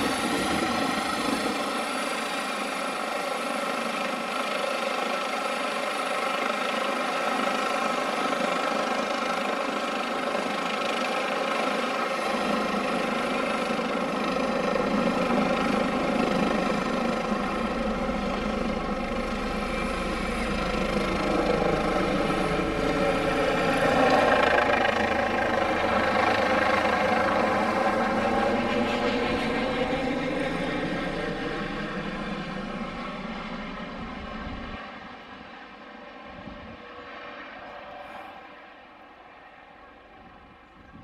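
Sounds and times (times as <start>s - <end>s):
helicopter rotor and turbine: 0.0s - 41.0s.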